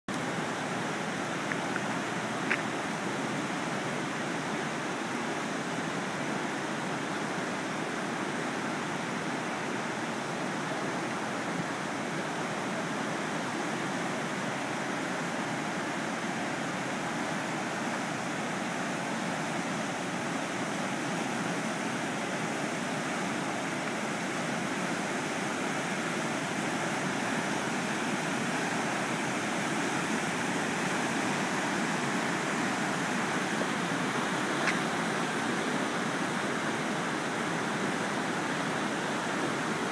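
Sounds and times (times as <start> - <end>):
river rushing in flood: 0.1 - 39.9.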